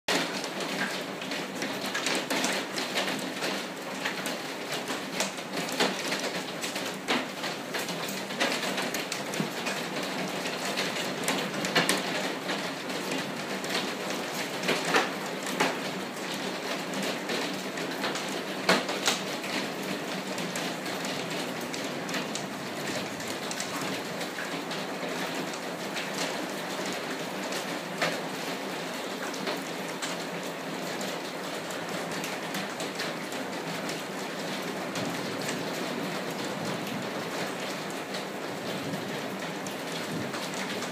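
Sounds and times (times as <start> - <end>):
rain on a glass roof: 0.1 - 40.9.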